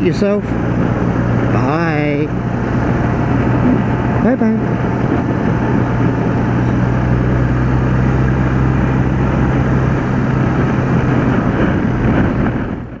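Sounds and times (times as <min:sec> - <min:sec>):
motorcycle engine running: 0:00.0 - 0:13.0
rush of wind noise: 0:00.0 - 0:13.0.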